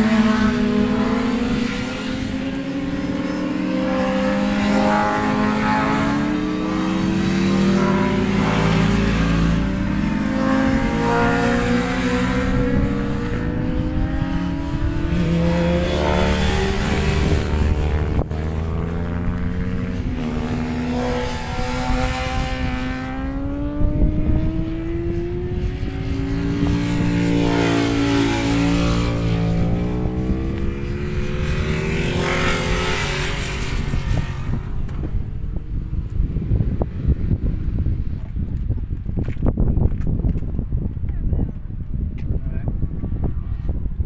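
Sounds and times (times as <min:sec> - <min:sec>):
racing motorcycle engines revving: 0:00.0 - 0:39.5.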